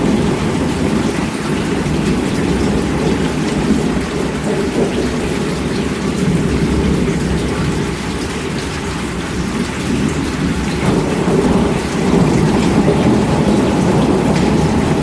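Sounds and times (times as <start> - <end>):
heavy rain: 0.0 - 15.0
low rumble of thunder: 0.0 - 15.0.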